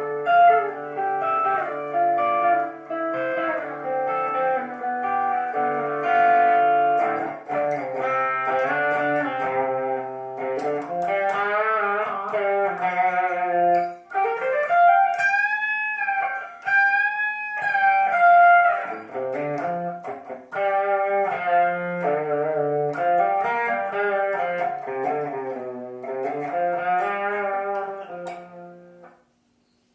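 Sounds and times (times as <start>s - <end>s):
guitar music: 0.0s - 29.7s.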